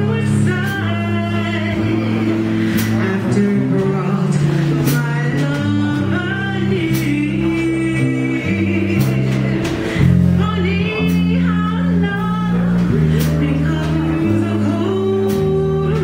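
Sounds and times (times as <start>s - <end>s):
electric bass: 0.0s - 16.0s
woman singing: 0.0s - 16.0s.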